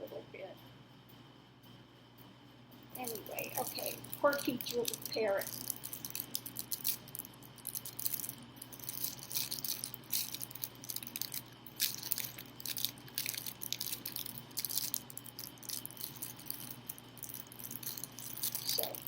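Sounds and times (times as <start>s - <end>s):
low steady hum: 0.0s - 19.0s
rustling and crackling paper: 3.0s - 19.0s.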